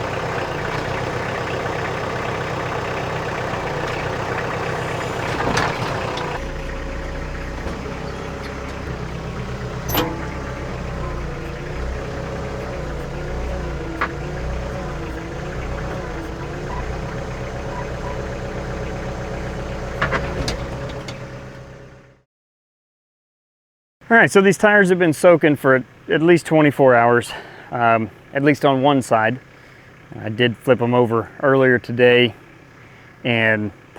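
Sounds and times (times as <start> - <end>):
engine idling: 0.0 - 22.2, 25.2 - 33.9.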